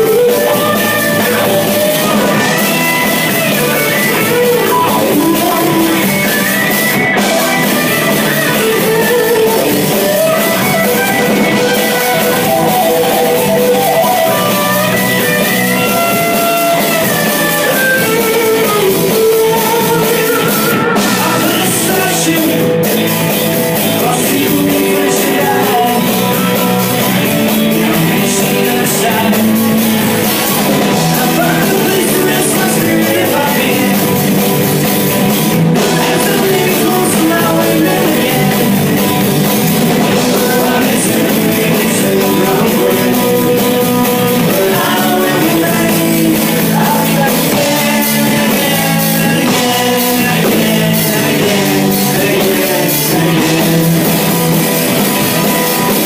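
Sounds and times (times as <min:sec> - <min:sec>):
drum kit: 0:00.0 - 0:56.0
electric guitars: 0:00.0 - 0:56.0
person singing: 0:00.0 - 0:56.0.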